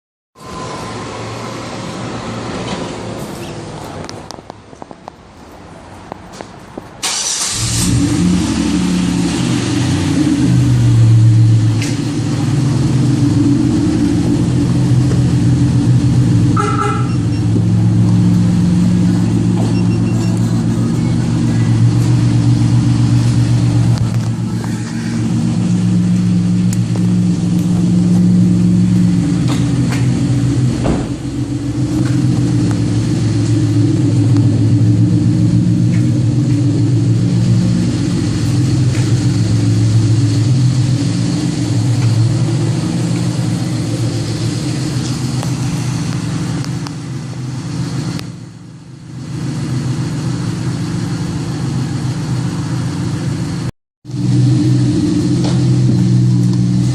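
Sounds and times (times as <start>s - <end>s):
car engine exhaust drone: 6.8s - 56.9s.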